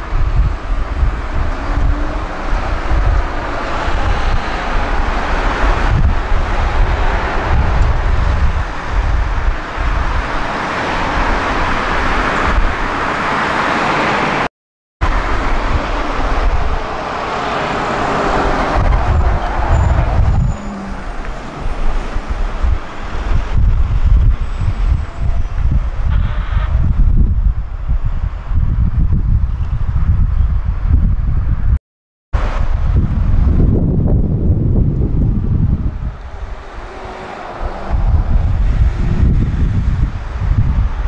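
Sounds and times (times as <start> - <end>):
wind buffeting microphone: 0.0 - 14.4, 15.0 - 31.8, 32.4 - 41.0
cars driving by: 0.0 - 26.9, 32.4 - 40.9
bus driving by: 0.0 - 27.3, 32.4 - 41.0.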